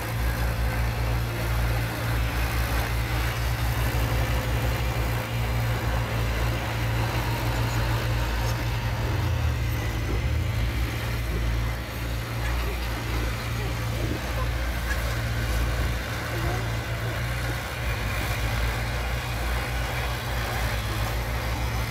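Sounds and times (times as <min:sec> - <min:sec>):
bulldozer pushing dirt: 0:00.0 - 0:21.9
excavator engine rumble: 0:00.0 - 0:21.9.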